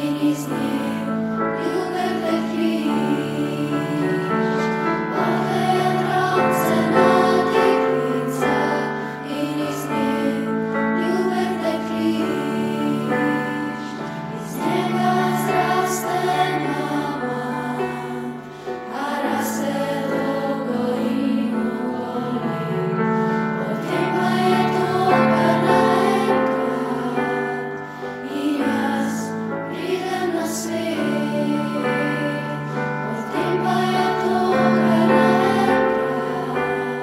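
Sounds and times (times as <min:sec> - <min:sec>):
held accompaniment chords: 0:00.0 - 0:37.0
youth choir singing: 0:00.0 - 0:37.0.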